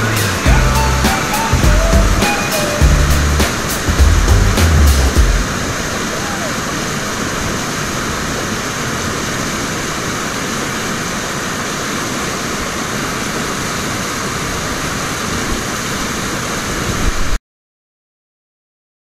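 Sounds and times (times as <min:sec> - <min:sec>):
whitewater roaring: 0:00.0 - 0:17.3.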